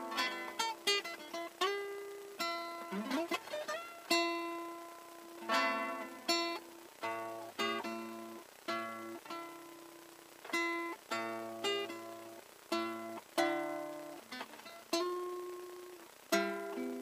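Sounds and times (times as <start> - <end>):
classical guitar playing: 0.0 - 17.0.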